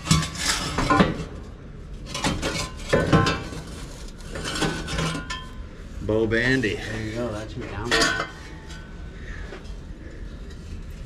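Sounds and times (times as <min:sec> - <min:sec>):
metal pipe clanking and scraping: 0:00.0 - 0:05.8, 0:06.4 - 0:11.0.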